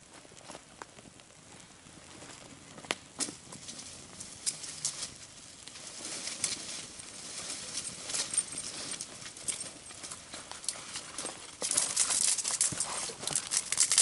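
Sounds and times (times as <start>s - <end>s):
kindling fire crackling and popping: 0.0s - 14.0s.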